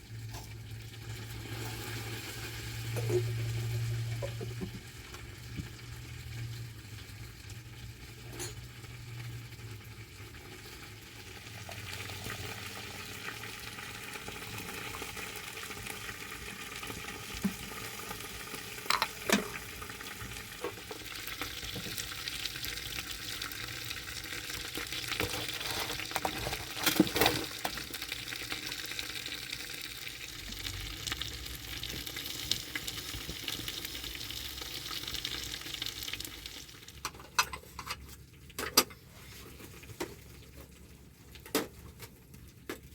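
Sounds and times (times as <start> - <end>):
chicken sizzling over fire: 0.0 - 42.9.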